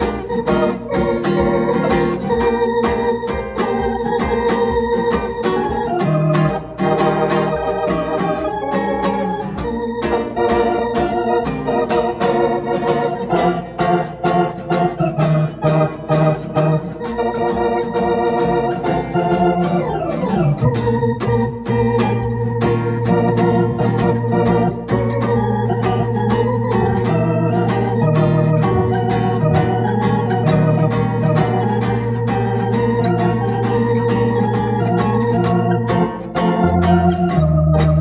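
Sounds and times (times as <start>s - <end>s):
blues guitar: 0.0s - 38.0s
organ chords: 0.0s - 38.0s.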